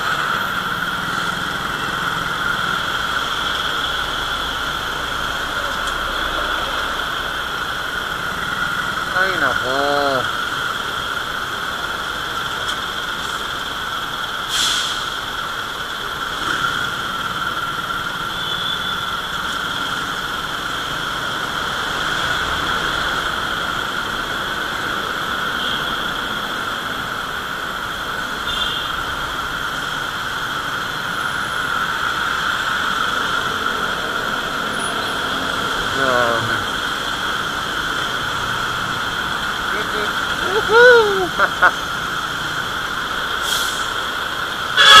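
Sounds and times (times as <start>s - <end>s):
high whine: 0.0s - 45.0s.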